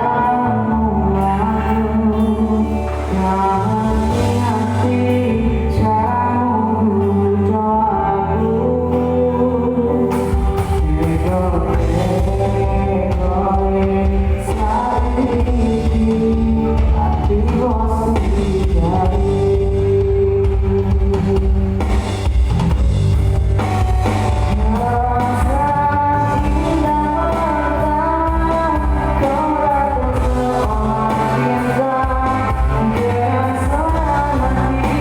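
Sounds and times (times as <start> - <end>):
band playing a song: 0.0 - 6.0, 10.0 - 35.0
drums: 0.0 - 6.4, 9.9 - 35.0
lead singer singing: 0.0 - 22.6, 23.6 - 35.0
bass guitar: 0.0 - 35.0.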